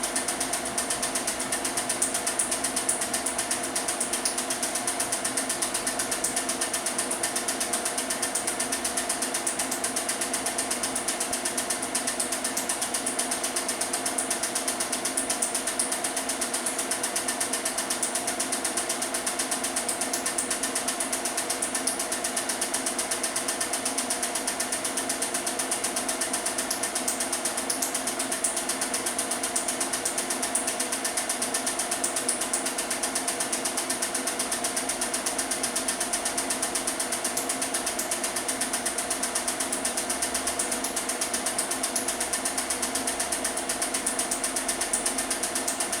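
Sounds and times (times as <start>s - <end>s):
film projector clattering: 0.0s - 46.0s.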